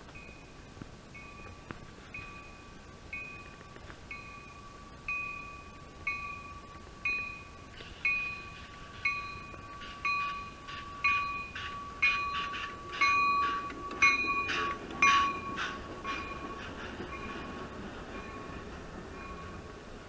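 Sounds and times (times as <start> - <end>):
train bell ringing: 0.1 - 20.0.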